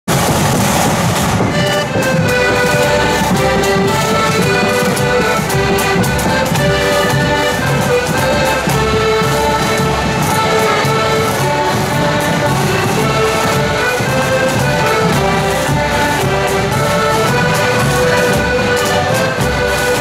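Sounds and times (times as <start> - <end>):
accordion band playing a march: 0.0 - 20.0.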